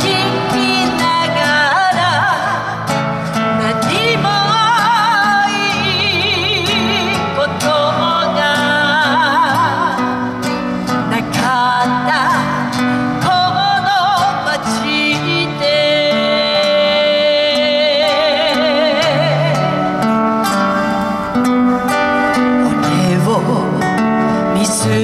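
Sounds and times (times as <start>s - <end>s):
man singing with vibrato: 0.0s - 20.3s, 21.9s - 25.0s
acoustic guitars strummed and picked: 0.0s - 25.0s.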